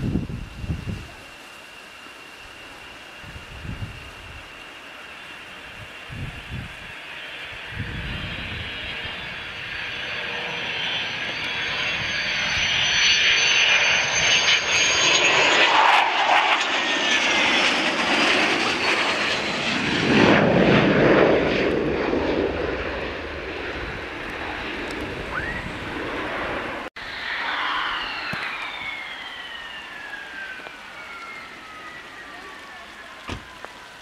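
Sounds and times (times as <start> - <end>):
jet engine whine and rumble: 0.0 - 34.0.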